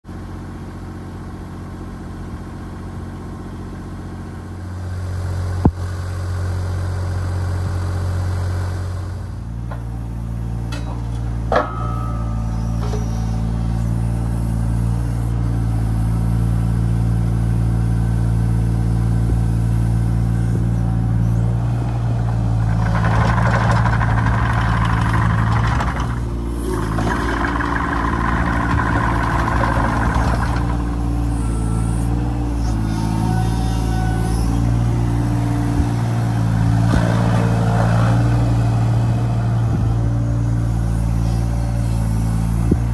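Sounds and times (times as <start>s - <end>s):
excavator diesel engine running: 0.1s - 42.9s.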